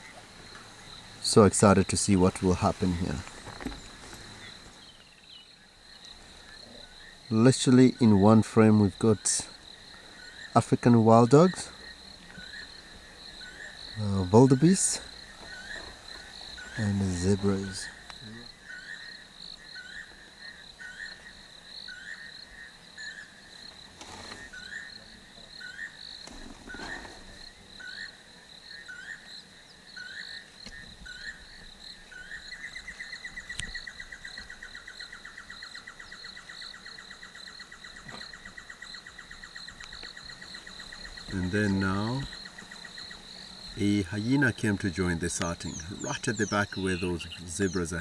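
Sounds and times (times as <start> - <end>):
fast pulsing insect trill: 0.0 - 48.0
insect chirping call: 0.0 - 48.0
insects trilling: 0.0 - 48.0.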